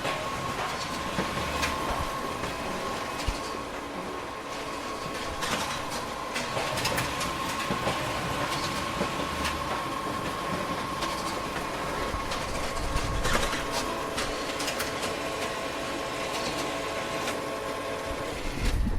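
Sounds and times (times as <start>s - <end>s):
photocopier clicks and clacks: 0.0s - 18.8s
photocopier humming and whining: 0.0s - 18.9s.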